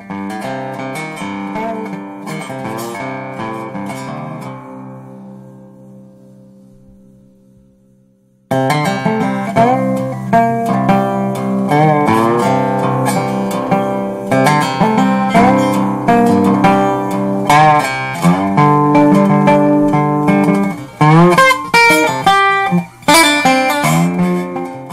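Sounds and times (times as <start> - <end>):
plucked guitar: 0.0 - 24.9.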